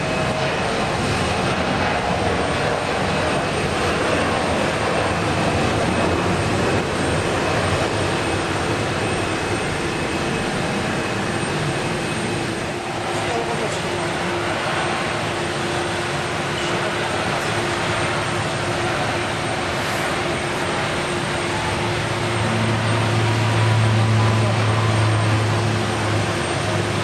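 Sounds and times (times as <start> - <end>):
jet engines at take-off power: 0.0 - 27.0.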